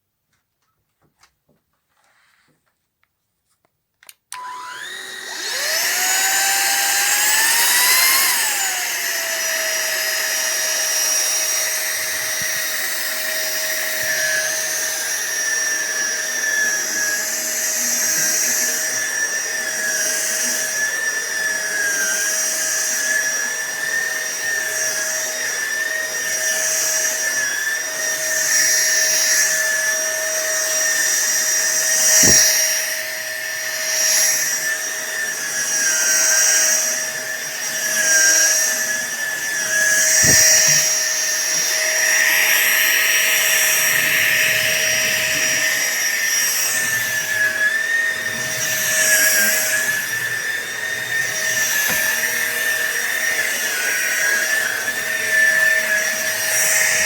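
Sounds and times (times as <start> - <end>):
vacuum cleaner motor whining: 4.0 - 57.0.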